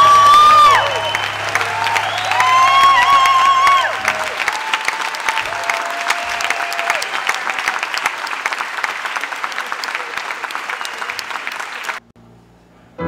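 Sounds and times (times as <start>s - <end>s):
audience clapping: 0.0s - 12.0s.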